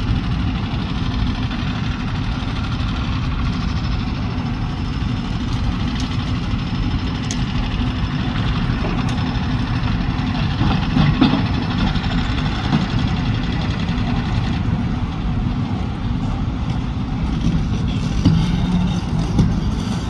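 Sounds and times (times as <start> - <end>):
diesel engine drone: 0.0 - 20.0.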